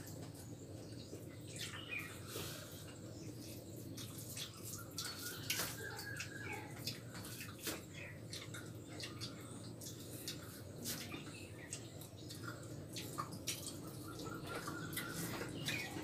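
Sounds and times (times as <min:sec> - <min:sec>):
people eating with fingers: 0:00.0 - 0:16.0.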